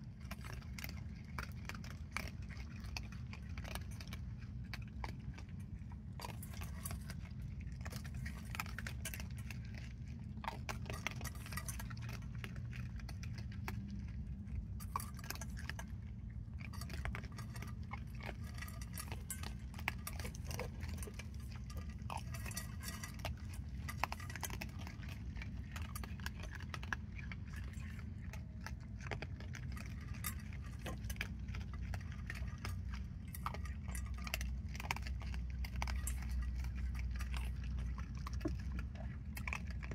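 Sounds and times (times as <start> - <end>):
animals crunching dry food: 0.0 - 39.9
steady low hum: 0.0 - 39.9.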